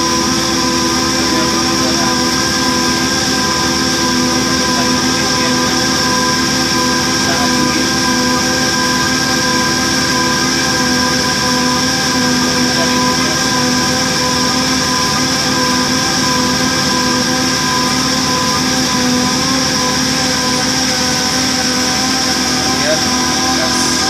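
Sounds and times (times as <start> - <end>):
boring machine humming and whining: 0.0 - 24.0.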